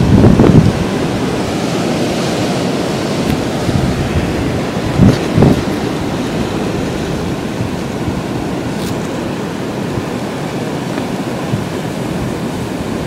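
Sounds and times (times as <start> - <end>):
blizzard wind blowing hard: 0.0 - 13.0.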